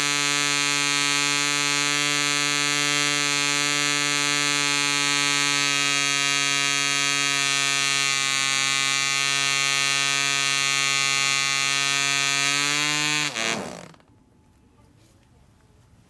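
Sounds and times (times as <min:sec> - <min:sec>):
small model engine buzzing: 0:00.0 - 0:14.1.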